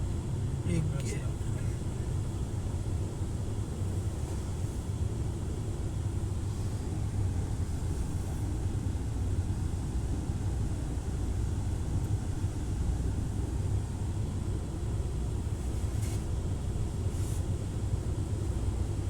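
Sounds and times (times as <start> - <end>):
low rumble inside car wash: 0.0 - 19.0.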